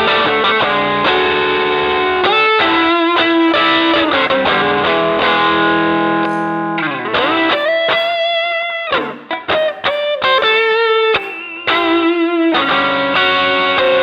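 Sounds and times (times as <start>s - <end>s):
electric guitar sustained notes: 0.0s - 14.0s.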